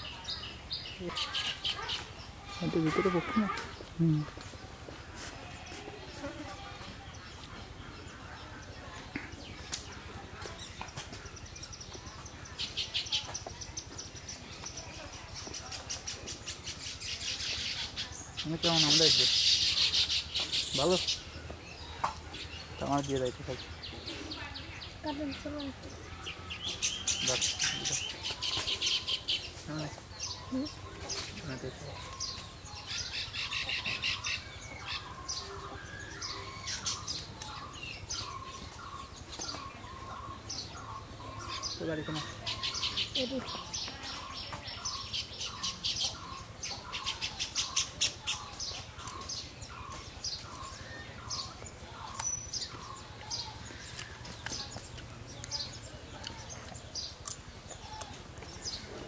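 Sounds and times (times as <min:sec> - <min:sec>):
birds chattering high chirps: 0:00.0 - 0:59.0.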